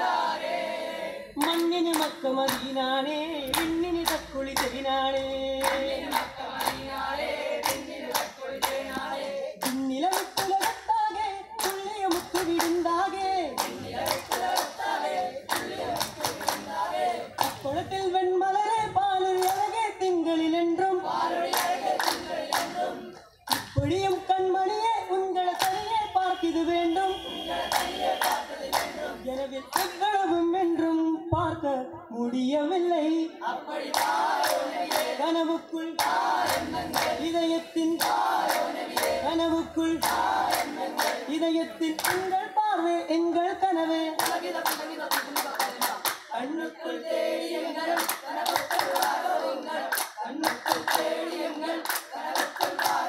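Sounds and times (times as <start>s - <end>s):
group singing together: 0.0s - 32.1s, 32.8s - 53.0s
rhythmic hand clapping: 1.3s - 17.9s, 19.3s - 20.0s, 21.0s - 26.7s, 27.5s - 30.3s, 33.8s - 42.5s, 43.7s - 53.0s.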